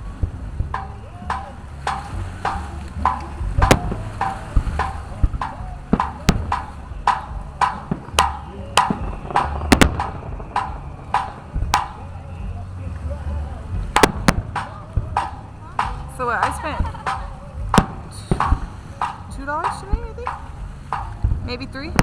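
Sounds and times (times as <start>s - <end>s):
fireworks bursting: 0.0s - 12.7s, 13.5s - 22.0s
low rumble: 0.0s - 22.0s.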